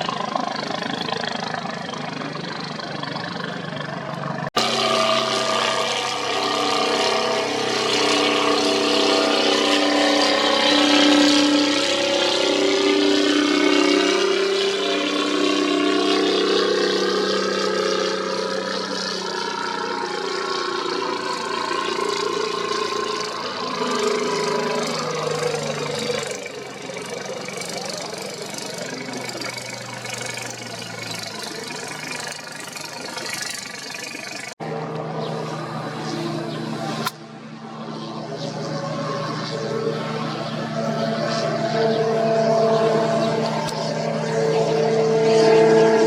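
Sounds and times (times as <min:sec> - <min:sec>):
racing boat engines passing: 0:00.0 - 0:46.0.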